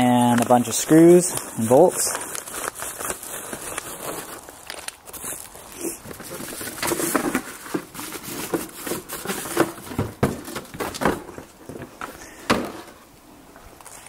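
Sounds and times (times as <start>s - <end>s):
paper and cardboard rustling: 0.0s - 13.0s.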